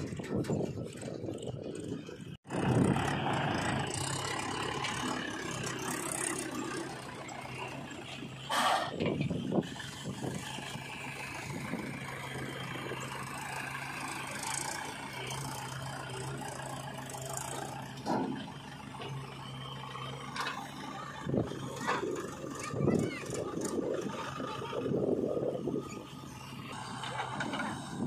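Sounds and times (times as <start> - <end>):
diesel engines running: 0.0 - 28.0.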